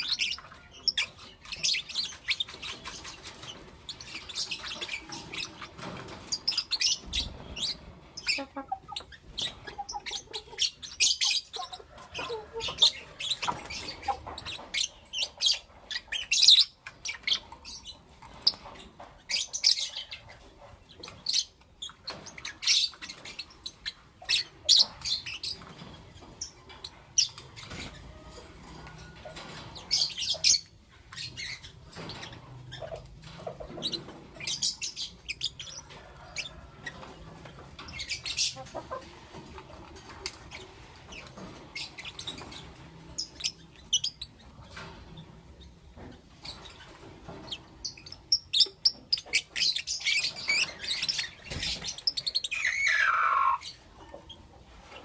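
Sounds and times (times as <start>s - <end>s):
lovebirds chirping: 0.0s - 39.1s, 45.5s - 54.4s.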